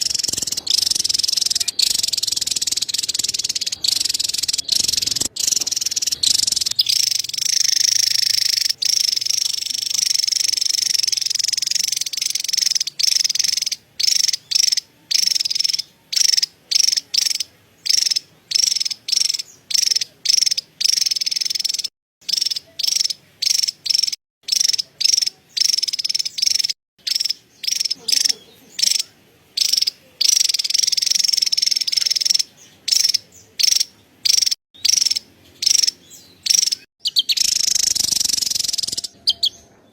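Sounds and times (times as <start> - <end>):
bird buzzy chattering call: 0.0 - 39.7.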